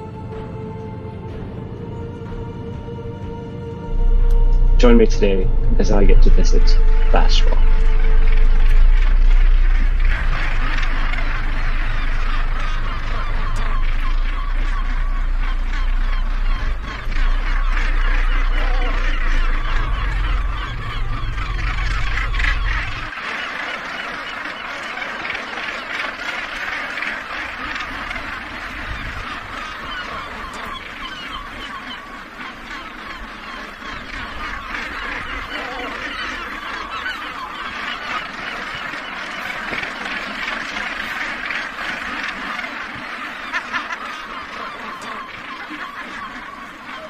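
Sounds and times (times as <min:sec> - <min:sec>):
boat engine rumble: 0:00.0 - 0:47.0
gannets calling: 0:00.0 - 0:47.0.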